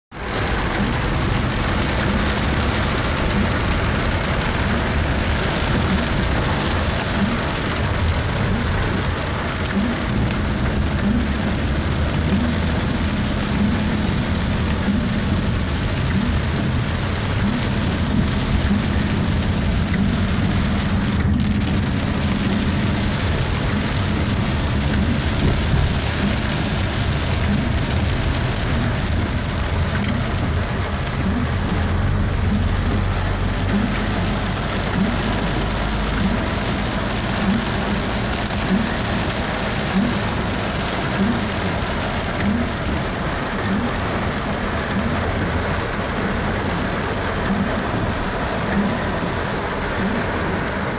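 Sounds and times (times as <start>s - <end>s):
car engine humming: 0.1s - 50.9s
heavy rain on car roof: 0.1s - 50.9s.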